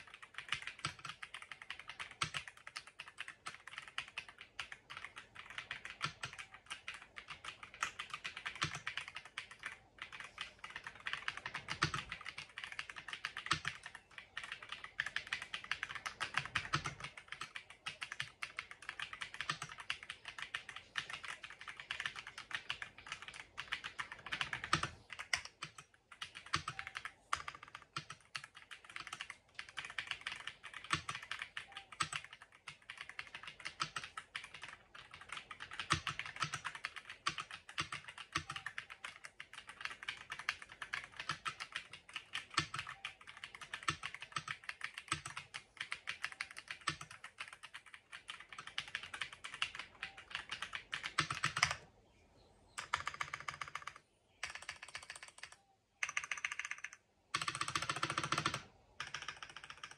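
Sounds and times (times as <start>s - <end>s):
mechanical keyboard typing: 0.0s - 51.8s, 52.7s - 59.9s.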